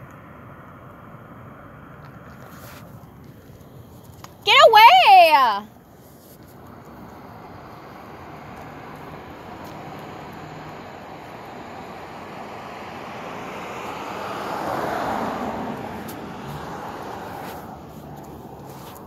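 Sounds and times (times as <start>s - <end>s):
car passing: 0.0s - 19.0s.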